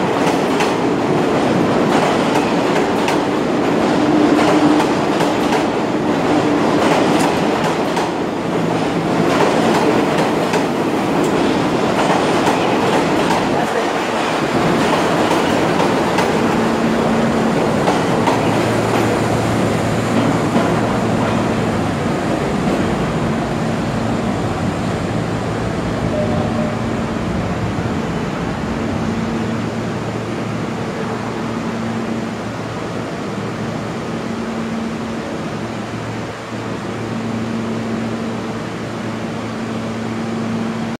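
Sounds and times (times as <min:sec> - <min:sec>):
subway train rumble: 0:00.0 - 0:41.0.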